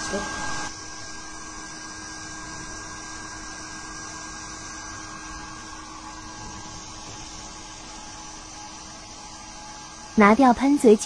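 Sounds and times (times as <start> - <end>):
printer fans whirring: 0.0 - 11.0.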